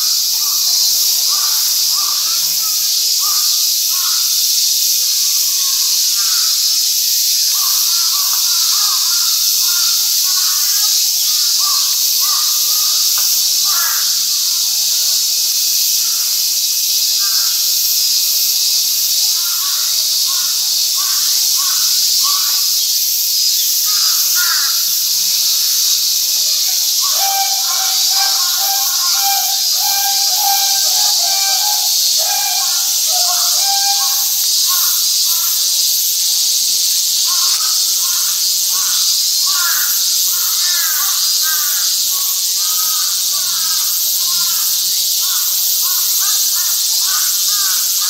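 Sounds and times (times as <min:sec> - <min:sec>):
cicadas droning: 0:00.0 - 0:48.0
harsh insect calls: 0:00.0 - 0:48.0.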